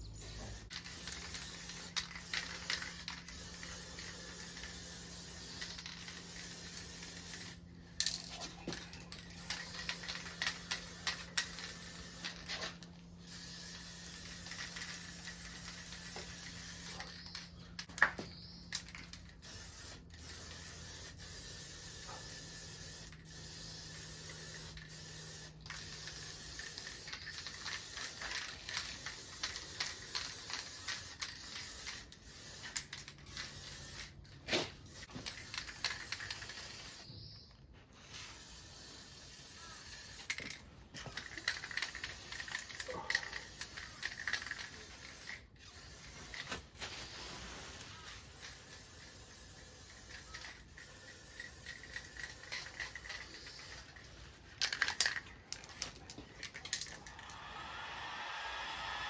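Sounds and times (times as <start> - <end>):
spray paint hissing: 0.0 - 37.3, 38.0 - 59.0.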